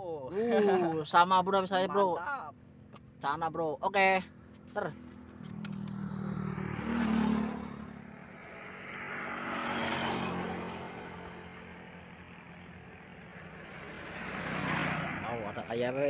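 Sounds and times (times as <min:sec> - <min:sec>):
vehicles passing on road: 0:00.0 - 0:16.0.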